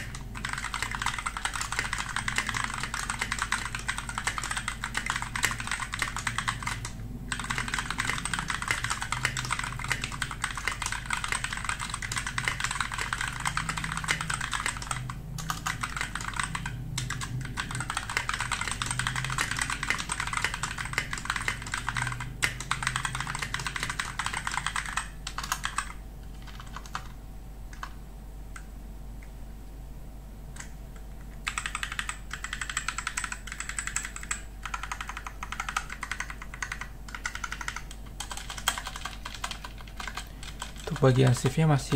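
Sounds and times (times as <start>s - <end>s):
mechanical keyboard typing: 0.0s - 27.9s, 31.4s - 41.9s.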